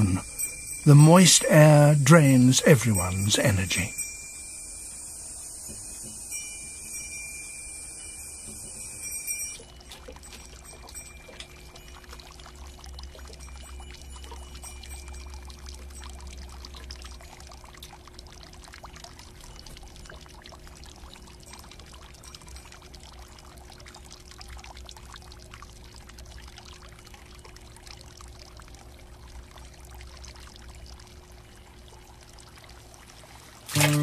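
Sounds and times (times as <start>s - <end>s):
water pouring into a pool: 0.0s - 34.0s.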